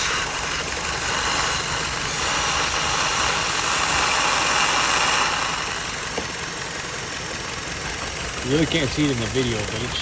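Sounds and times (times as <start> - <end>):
car engine idling roughly: 0.0 - 10.0.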